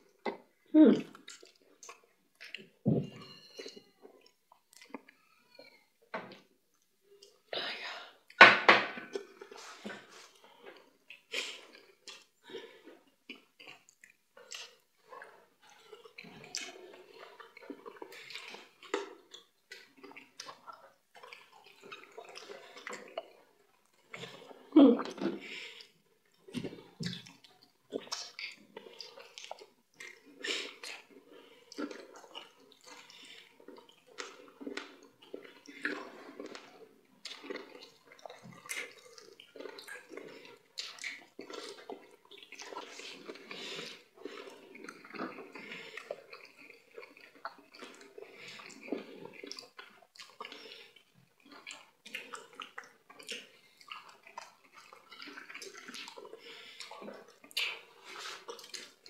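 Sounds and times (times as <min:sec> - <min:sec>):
chewing and lip smacks: 0:01.0 - 0:02.7, 0:10.2 - 0:59.0.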